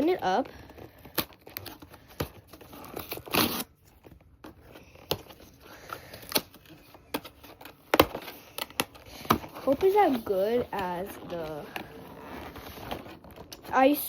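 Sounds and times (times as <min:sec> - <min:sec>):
plastic ripping: 0:00.0 - 0:13.8.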